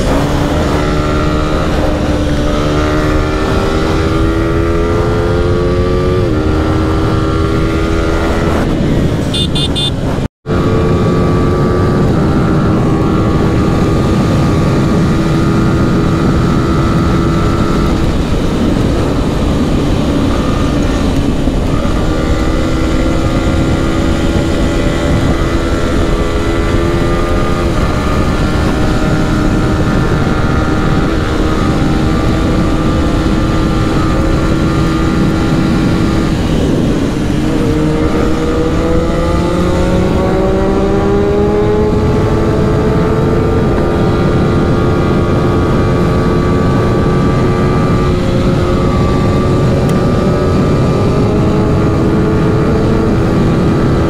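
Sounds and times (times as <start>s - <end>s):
motorcycle engine at high revs: 0.0s - 54.0s
wind and road noise: 0.0s - 54.0s.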